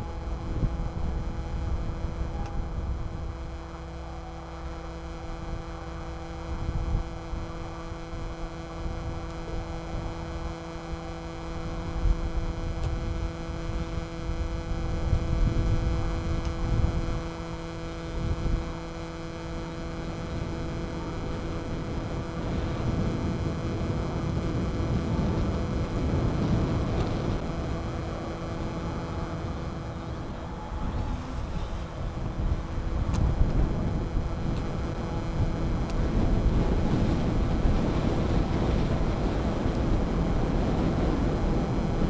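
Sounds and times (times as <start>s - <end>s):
drone propellers humming: 0.0s - 42.0s
wind rumbling on microphone: 0.0s - 42.0s.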